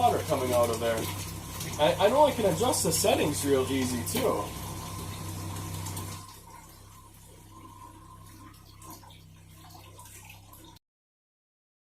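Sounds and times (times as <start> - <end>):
water trickling from faucet: 0.0 - 10.8.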